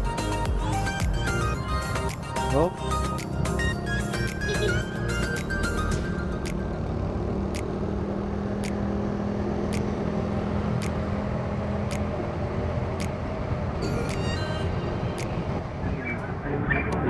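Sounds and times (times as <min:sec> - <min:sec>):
motorcycle engine running: 0:00.0 - 0:15.8
road noise: 0:00.0 - 0:17.0.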